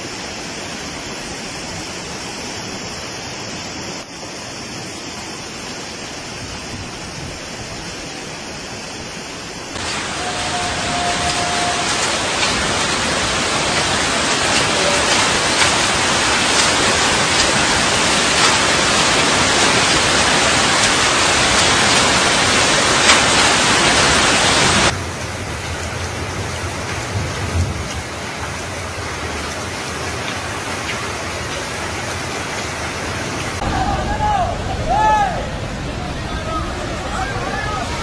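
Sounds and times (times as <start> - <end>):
floodwater rushing: 0.0 - 38.0
heavy rain: 0.0 - 38.0.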